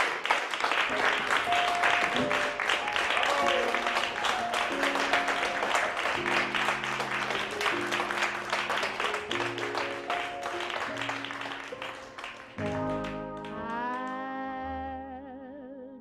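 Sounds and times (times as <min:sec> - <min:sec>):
audience applauding: 0:00.0 - 0:14.3
background music: 0:00.8 - 0:16.0.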